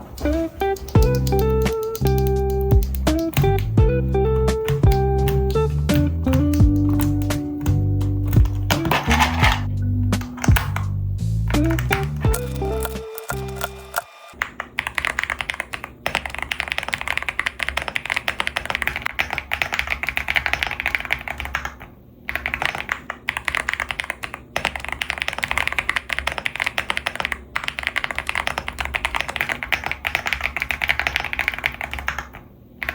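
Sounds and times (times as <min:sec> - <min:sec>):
mechanical keyboard typing: 0:00.2 - 0:03.8, 0:04.6 - 0:09.6, 0:10.2 - 0:10.8, 0:11.6 - 0:32.9.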